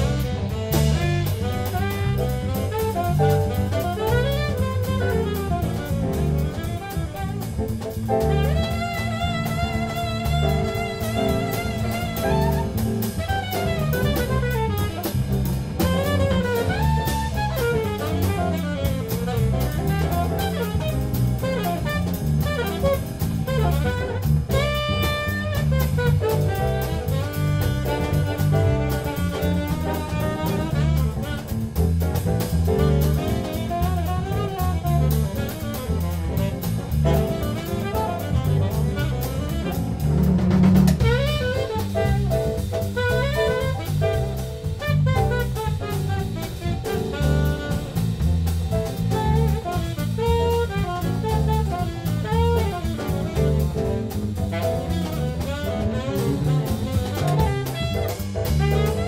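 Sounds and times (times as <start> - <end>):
alto saxophone lead: 0.0 - 59.0
double bass: 0.0 - 59.0
drum kit: 0.0 - 59.0
piano: 0.0 - 59.0
steady jazz cymbal rhythm: 0.0 - 59.0.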